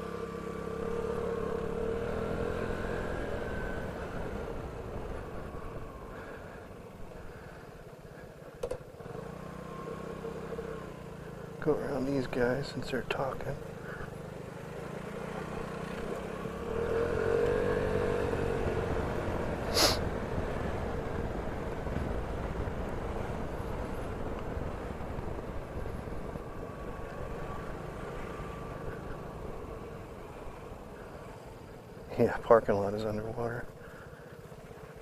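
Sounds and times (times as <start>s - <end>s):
scooter engine running: 0.0s - 35.0s.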